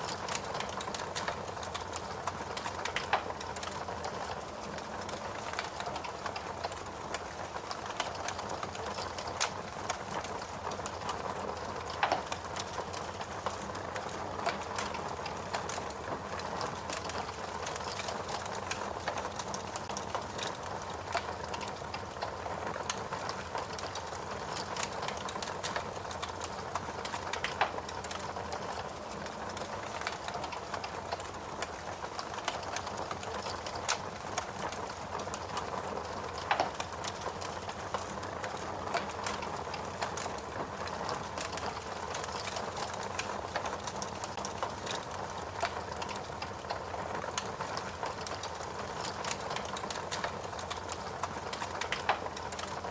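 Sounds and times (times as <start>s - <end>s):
fire crackling: 0.0s - 52.9s.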